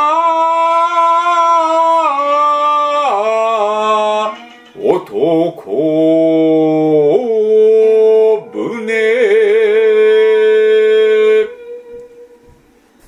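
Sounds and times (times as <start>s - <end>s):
person chanting long notes: 0.0s - 12.6s.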